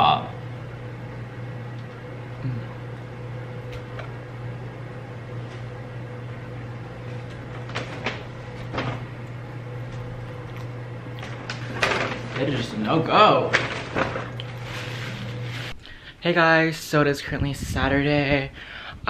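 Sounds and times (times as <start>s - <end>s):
room equipment hum: 0.0s - 19.0s.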